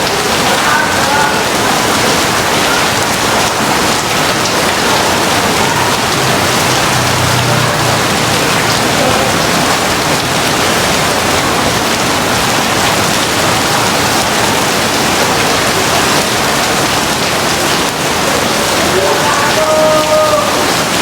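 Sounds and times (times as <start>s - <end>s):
heavy rain downpour: 0.0s - 21.0s.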